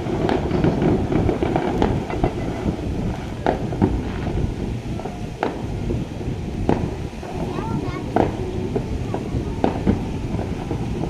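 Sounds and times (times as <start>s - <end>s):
fireworks popping and cracking: 0.0s - 11.0s
low rumble: 0.0s - 11.0s.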